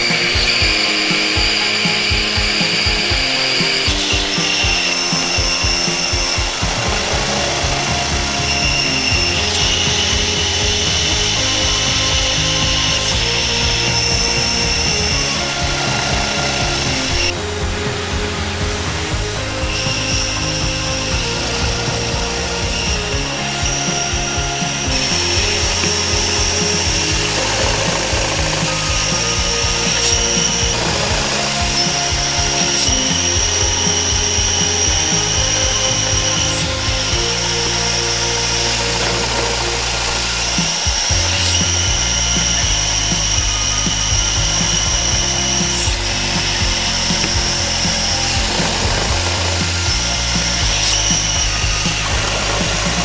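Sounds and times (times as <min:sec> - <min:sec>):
background music: 0:00.0 - 0:53.0
milling machine whine: 0:00.0 - 0:53.0.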